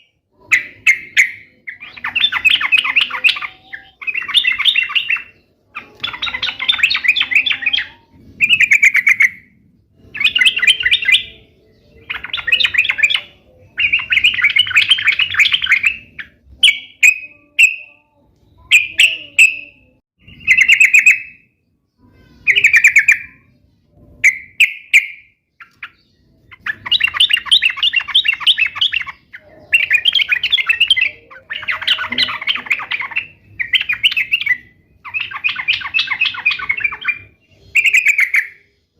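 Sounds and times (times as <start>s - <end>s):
bird chattering song: 0.0s - 38.9s.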